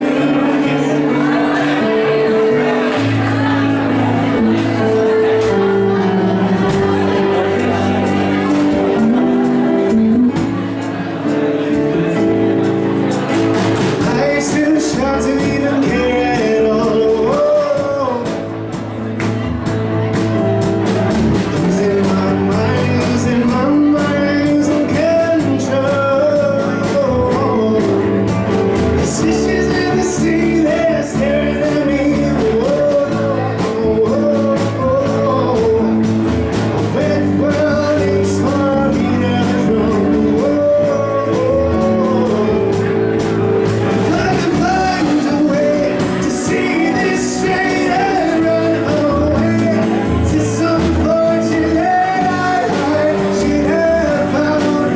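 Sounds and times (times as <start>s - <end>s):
person singing: 0.0s - 54.9s
rock band playing: 0.0s - 54.9s.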